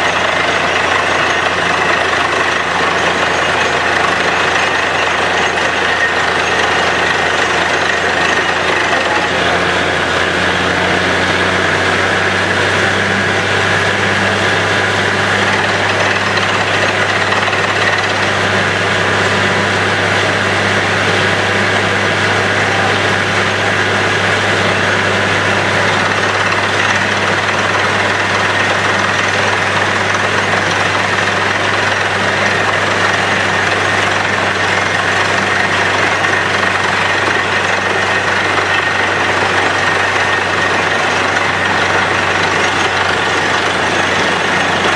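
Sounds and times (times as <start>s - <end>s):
drilling rig engine hum: 0.0s - 44.9s.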